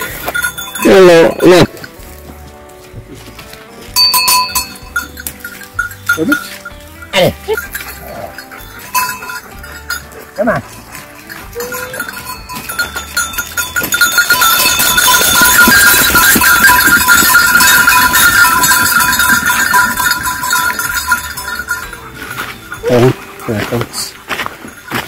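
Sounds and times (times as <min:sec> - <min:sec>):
goat bells clanking: 0:00.0 - 0:25.0.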